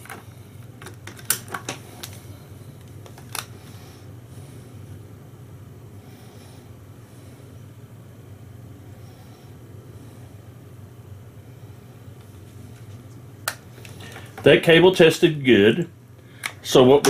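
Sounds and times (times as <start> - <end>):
low fan hum: 0.0 - 17.0.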